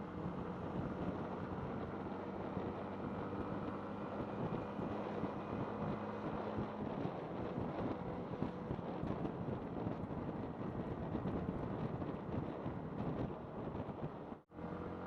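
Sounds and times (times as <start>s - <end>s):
wind noise on microphone: 0.0s - 14.4s.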